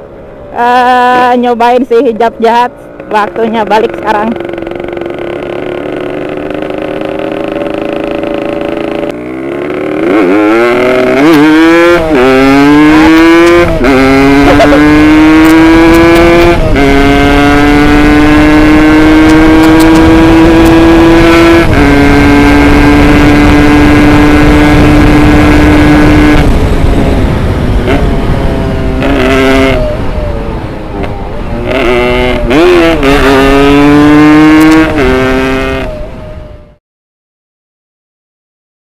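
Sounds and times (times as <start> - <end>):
motorcycle engine accelerating: 0.0 - 36.8.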